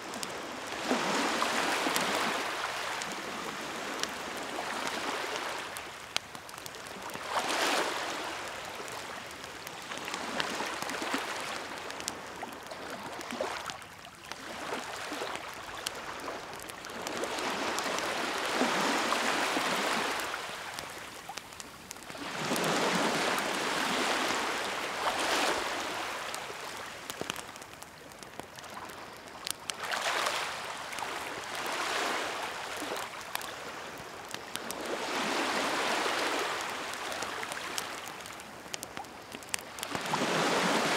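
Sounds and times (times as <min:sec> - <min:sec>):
sea waves washing ashore: 0:00.0 - 0:27.8, 0:28.6 - 0:40.9
bonfire crackling: 0:00.0 - 0:40.9.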